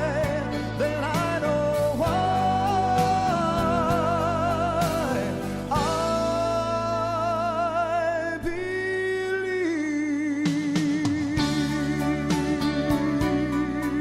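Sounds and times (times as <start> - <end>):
band accompaniment: 0.0 - 8.0, 10.4 - 14.0
person singing with vibrato: 0.0 - 14.0.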